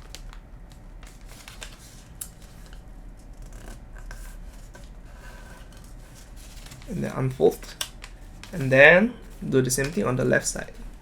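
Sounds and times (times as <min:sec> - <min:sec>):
crisp ticks of paper creasing: 0:00.0 - 0:10.3
paper being folded and creased: 0:00.0 - 0:10.3.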